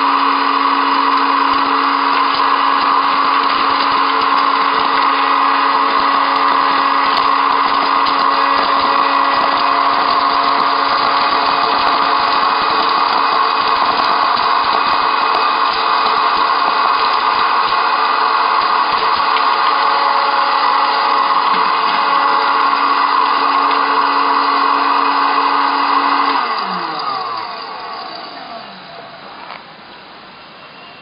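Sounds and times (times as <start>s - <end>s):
corn kernels popping: 0.0s - 28.7s
popcorn maker fan humming: 0.0s - 31.0s.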